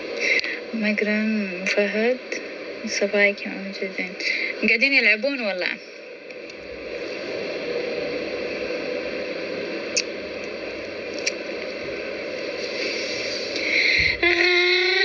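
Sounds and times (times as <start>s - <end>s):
steady hissing: 0.0s - 15.0s.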